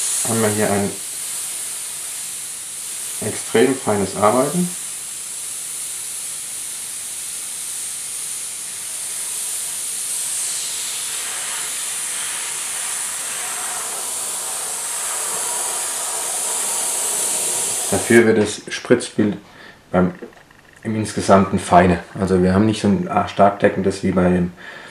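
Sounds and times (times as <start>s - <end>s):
airbrush air hiss: 0.0s - 20.3s.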